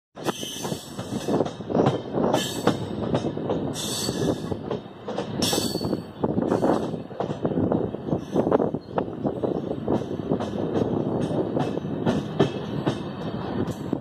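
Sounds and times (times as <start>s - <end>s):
train wheels rumbling and knocking: 0.2s - 14.0s.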